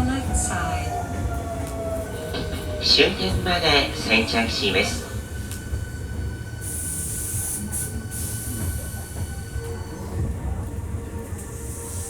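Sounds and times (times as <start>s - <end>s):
train inverter whine: 0.0s - 12.0s
wheels rumbling on rail: 0.0s - 12.0s.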